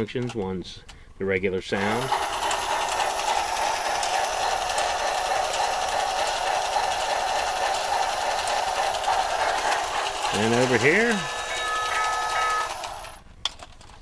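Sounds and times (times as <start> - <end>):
toy train running sound: 1.8 - 13.2.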